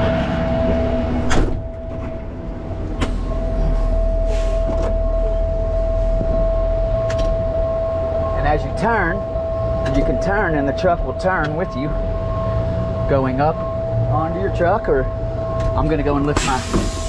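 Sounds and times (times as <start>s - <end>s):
diesel truck engine reversing: 0.0s - 17.0s
steady whine: 0.0s - 17.0s.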